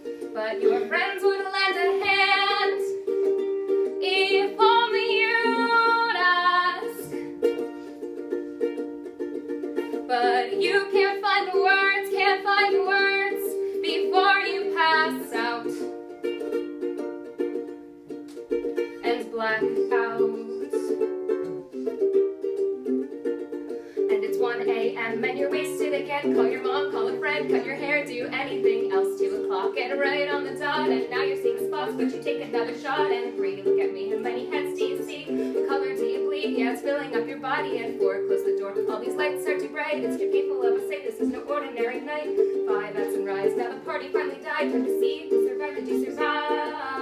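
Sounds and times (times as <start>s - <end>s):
small string instrument strummed: 0.0s - 47.0s
person singing: 0.2s - 7.6s, 10.0s - 16.0s, 18.9s - 23.1s, 24.0s - 47.0s.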